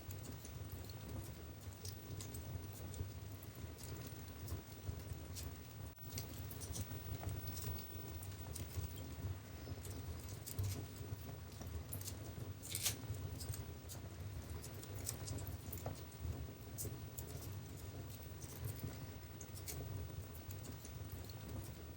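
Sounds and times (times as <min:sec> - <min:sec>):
wood fire crackling: 0:00.0 - 0:21.9.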